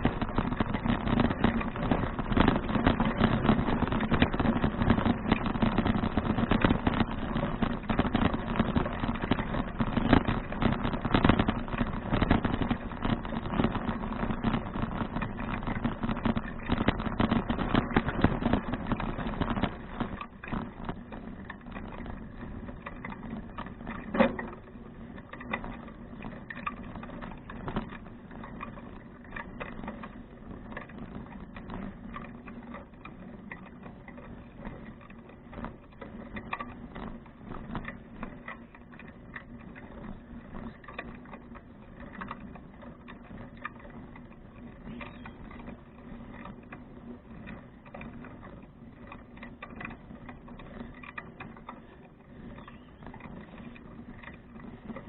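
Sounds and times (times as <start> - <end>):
bicycle rattling and ticking: 0.0 - 55.0
bicycle rolling hum: 0.0 - 55.0.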